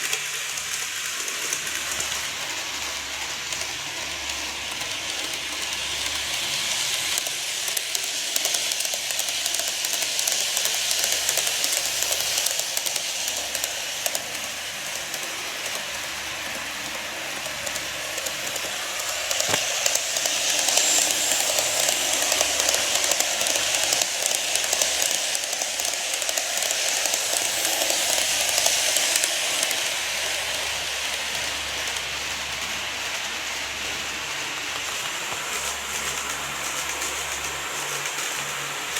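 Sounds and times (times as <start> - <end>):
model trains running on track: 0.0 - 38.9.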